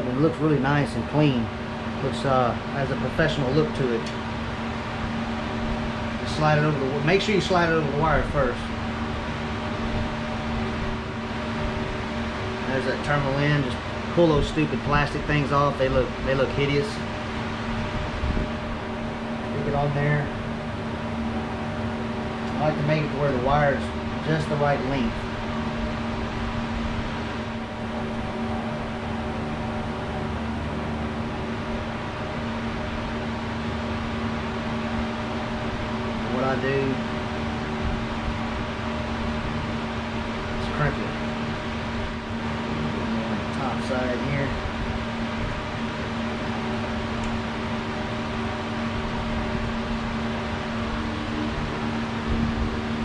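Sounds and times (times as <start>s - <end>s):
machine hum with hiss: 0.0s - 53.0s.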